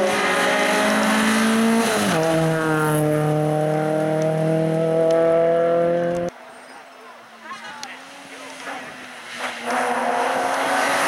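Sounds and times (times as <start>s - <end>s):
rally car engine at high revs: 0.0s - 6.3s, 7.6s - 11.0s.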